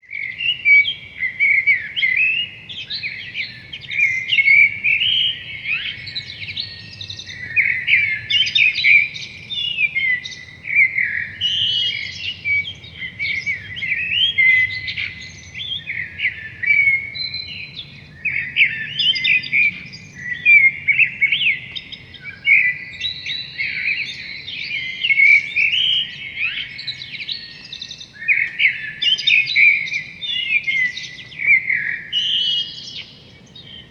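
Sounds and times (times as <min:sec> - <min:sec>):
songbirds chirping and trilling: 0:00.0 - 0:33.9.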